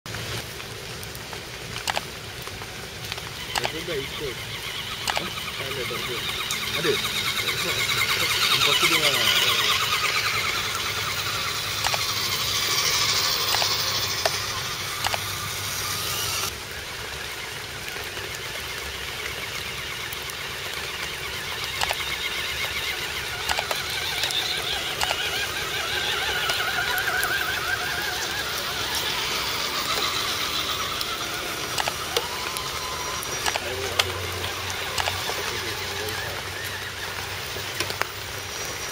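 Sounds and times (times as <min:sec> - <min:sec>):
scattered clicks: 0:00.1 - 0:16.6, 0:17.8 - 0:38.9
electric motors whining: 0:00.1 - 0:38.9.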